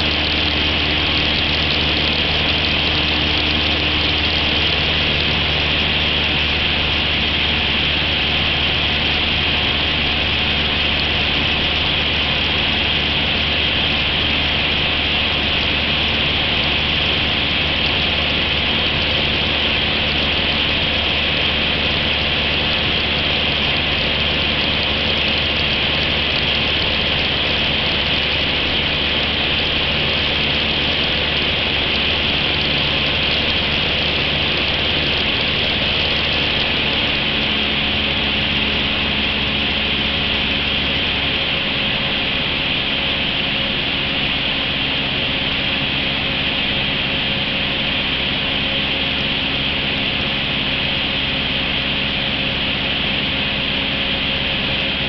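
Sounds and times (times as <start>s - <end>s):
airplane engine and propeller hum: 0.0s - 55.0s.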